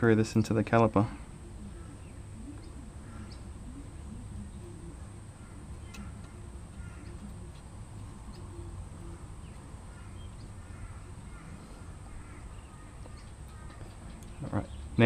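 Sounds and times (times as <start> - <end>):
faint bird chirps: 0.4 - 15.0.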